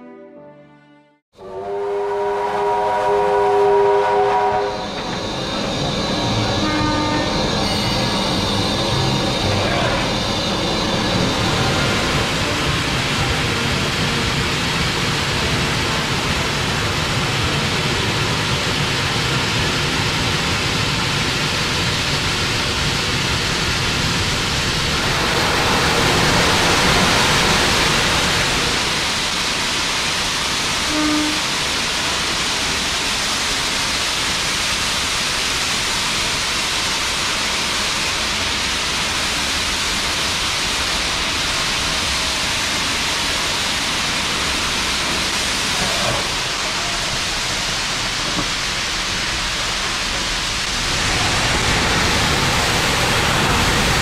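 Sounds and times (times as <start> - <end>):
steam locomotive hissing: 1.4 - 54.0.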